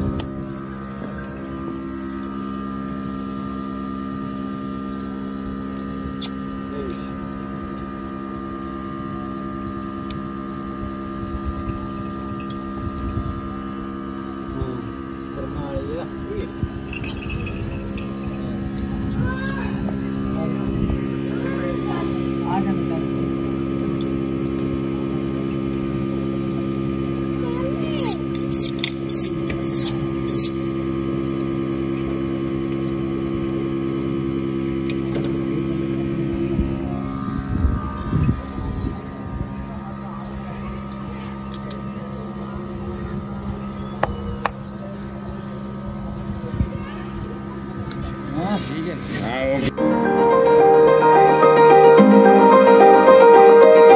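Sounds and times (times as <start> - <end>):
vacuum pump humming: 0.0 - 39.5, 47.6 - 53.9.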